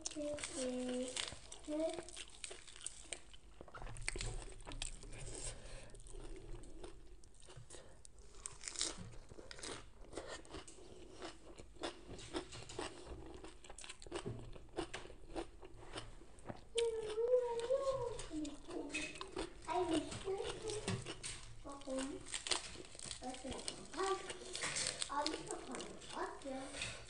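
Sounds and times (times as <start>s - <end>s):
crunching and chewing salad: 0.0s - 27.0s.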